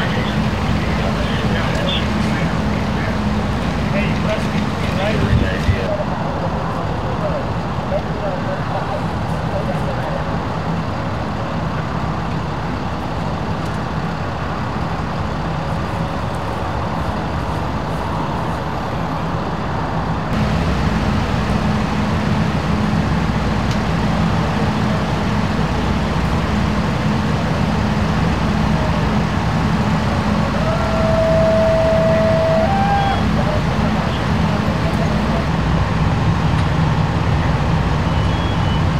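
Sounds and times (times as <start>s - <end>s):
truck engine idling: 0.0s - 19.2s, 20.3s - 38.9s
outdoor noise: 0.0s - 38.9s.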